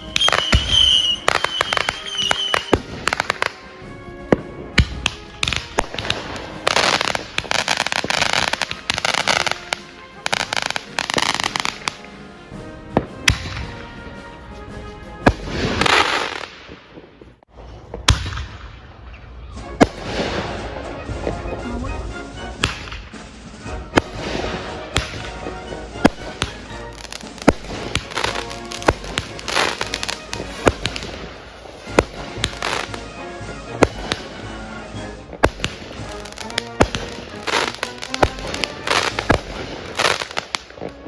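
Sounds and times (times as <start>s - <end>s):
firework bangs: 0.0s - 41.0s
firework crackling: 0.0s - 41.0s.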